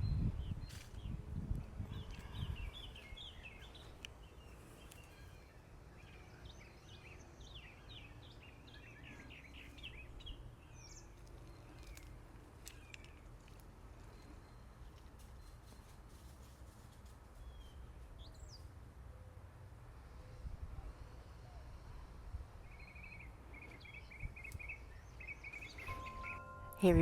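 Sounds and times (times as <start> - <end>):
faint small birds chirping: 0.0 - 18.8, 20.2 - 27.0.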